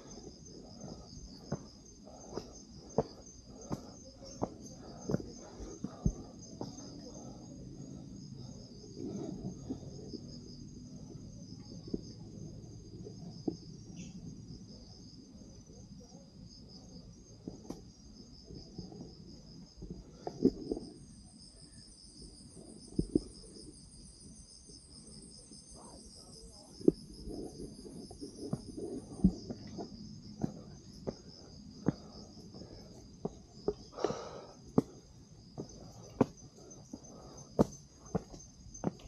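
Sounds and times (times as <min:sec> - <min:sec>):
higher-pitched insect trill: 0:00.0 - 0:19.8, 0:20.6 - 0:39.0
insects chirring: 0:00.0 - 0:39.0.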